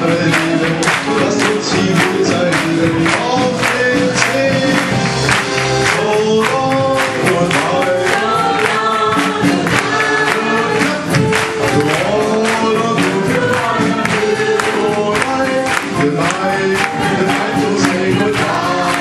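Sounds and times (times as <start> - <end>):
band accompaniment with steady beat: 0.0 - 19.0.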